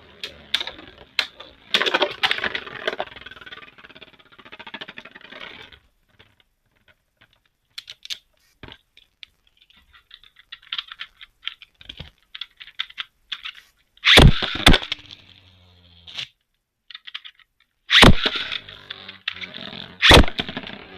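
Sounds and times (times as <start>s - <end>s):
plastic spinning tops rattling: 0.0s - 20.9s.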